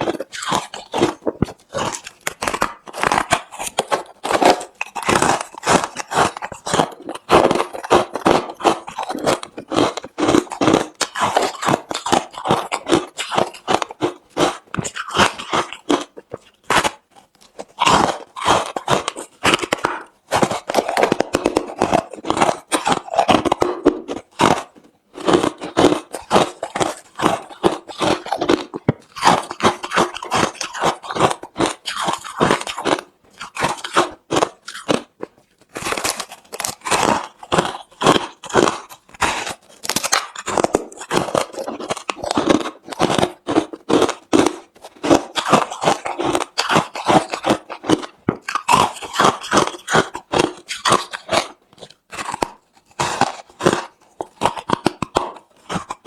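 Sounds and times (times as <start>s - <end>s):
chewing crushed ice: 0.0s - 56.0s.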